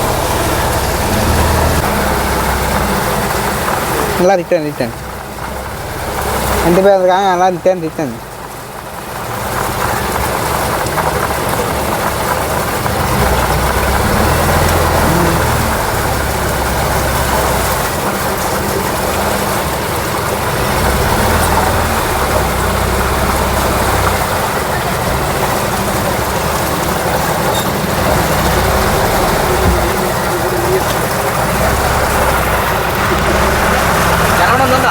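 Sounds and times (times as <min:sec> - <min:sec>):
motorboat engine running: 0:00.0 - 0:34.9.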